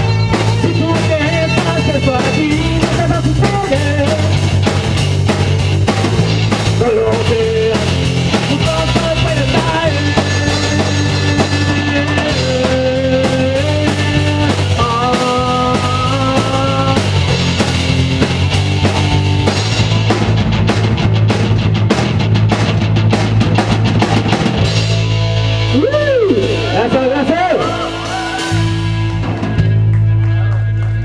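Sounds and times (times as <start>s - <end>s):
electric guitar lead notes: 0.0s - 23.1s, 24.1s - 31.0s
bass and drum groove: 0.0s - 31.0s.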